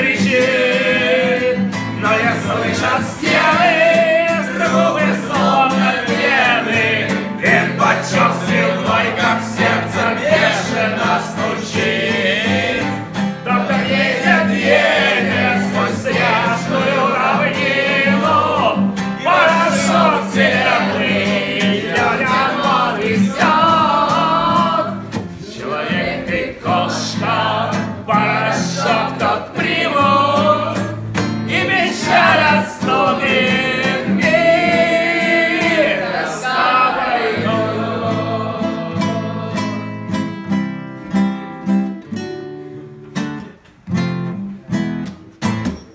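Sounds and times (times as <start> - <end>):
group singing led by man: 0.0 - 39.9
strummed acoustic guitar: 0.0 - 45.9.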